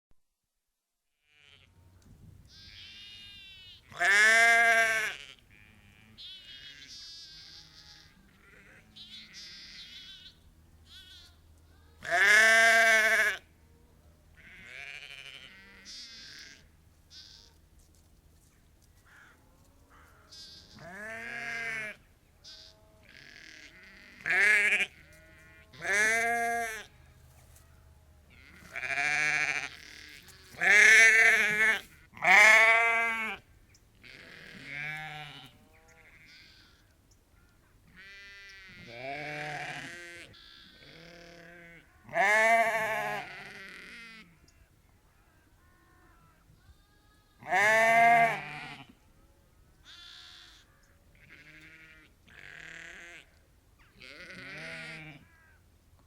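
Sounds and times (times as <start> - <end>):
sheep and lambs bleating: 1.2 - 1.8, 2.5 - 13.5, 14.3 - 17.6, 19.1 - 49.0, 49.8 - 55.6.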